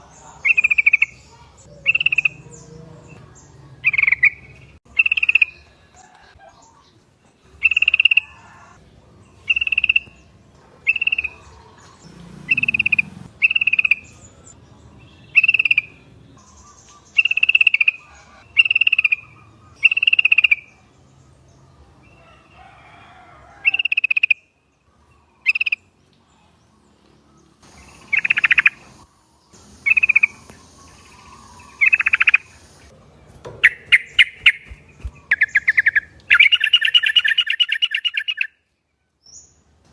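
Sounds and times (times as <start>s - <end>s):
bulbuls chirping: 0.0s - 22.6s, 23.6s - 39.8s.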